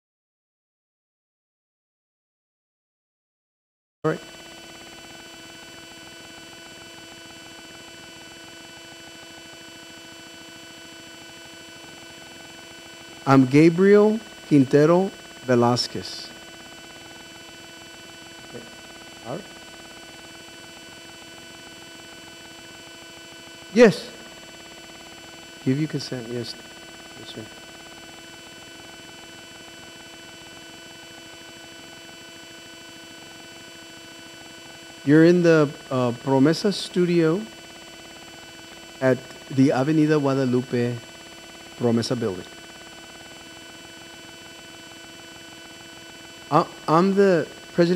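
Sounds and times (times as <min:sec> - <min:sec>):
electrical hum and buzz: 0:04.1 - 0:47.9
faint high steady tones: 0:04.1 - 0:47.9.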